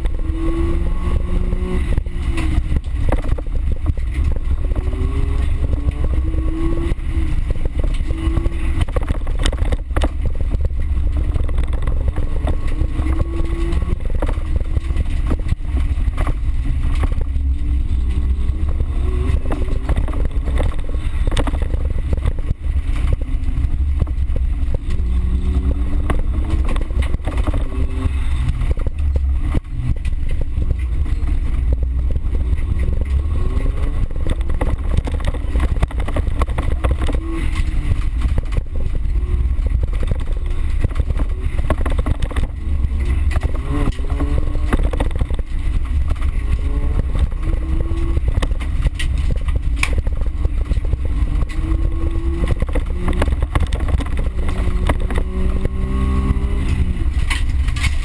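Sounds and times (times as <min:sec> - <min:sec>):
car knocks and rattles: 0:00.0 - 0:58.0
race car engine revving: 0:00.0 - 0:58.0.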